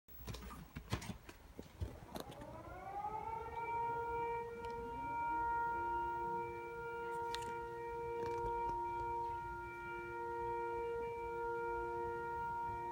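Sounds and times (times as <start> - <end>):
lower steady siren tone: 1.7 - 12.9
warning siren wailing: 1.7 - 12.9.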